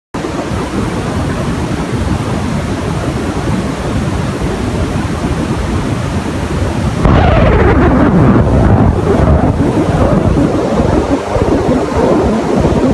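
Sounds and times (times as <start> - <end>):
loud steady rushing noise: 0.2 - 12.9.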